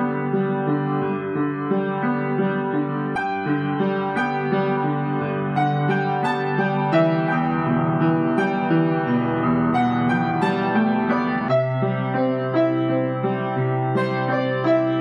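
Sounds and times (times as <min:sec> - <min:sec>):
slow solo piano piece: 0:00.0 - 0:15.0.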